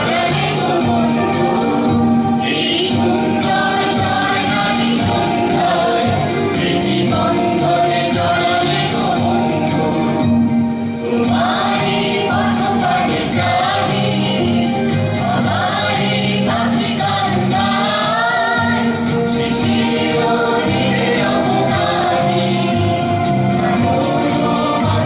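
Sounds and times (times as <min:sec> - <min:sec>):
song with singing and beat: 0:00.0 - 0:25.0.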